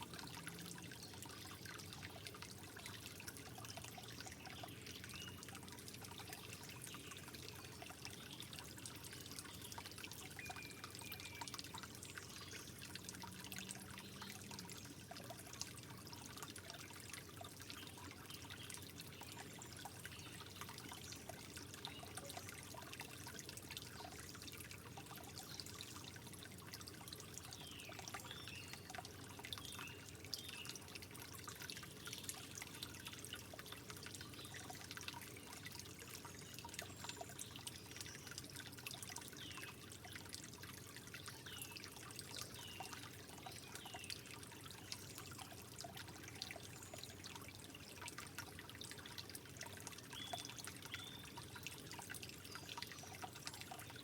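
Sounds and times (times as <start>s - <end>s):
water dripping and splashing: 0.0s - 54.0s
water trickling: 0.0s - 54.0s.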